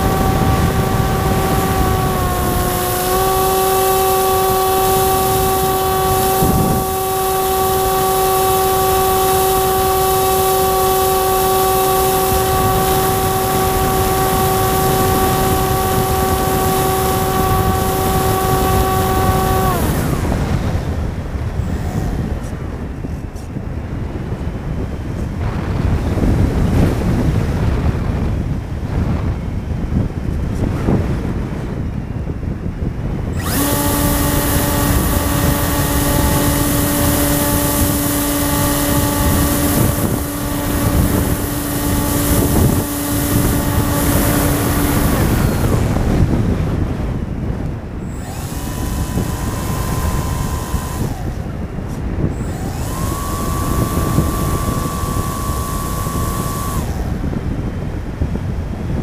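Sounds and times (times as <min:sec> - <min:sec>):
electric motor and propeller whine: 0:00.0 - 0:59.0
wind rush: 0:00.0 - 0:59.0.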